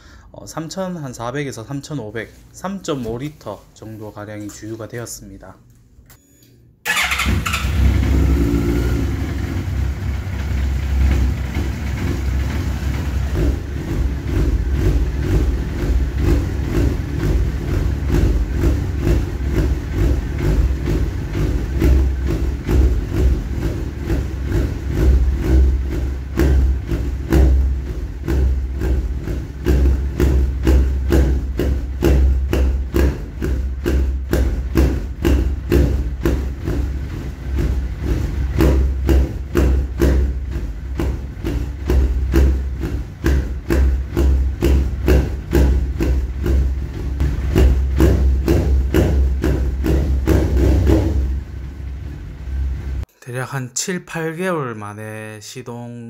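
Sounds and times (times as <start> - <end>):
motorcycle engine idling: 6.9 - 53.0.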